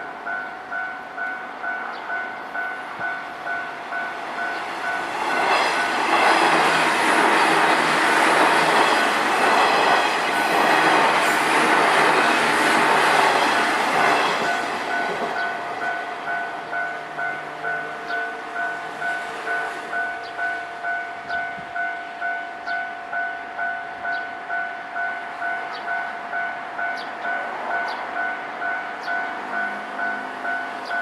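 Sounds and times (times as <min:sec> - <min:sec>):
train passing: 0:00.0 - 0:31.0
two-tone crossing bell ringing: 0:00.0 - 0:31.0.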